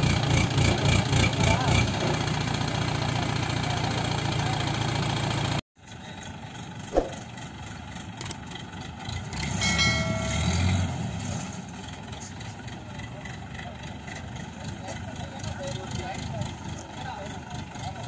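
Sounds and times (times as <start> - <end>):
distant engine: 0.0 - 18.0
heavy diesel engine running: 0.0 - 18.0.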